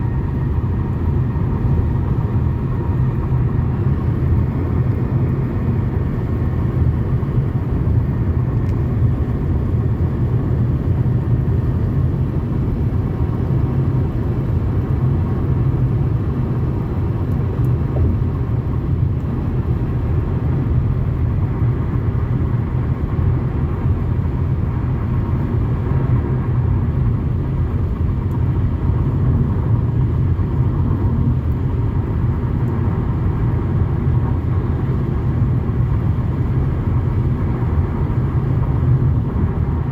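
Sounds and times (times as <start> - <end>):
road and engine rumble in car: 0.0 - 39.9.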